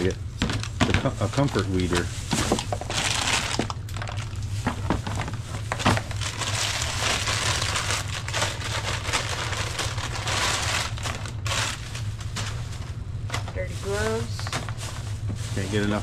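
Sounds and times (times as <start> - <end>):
steady low hum: 0.0 - 16.0
plastic bags crinkling: 0.5 - 16.0.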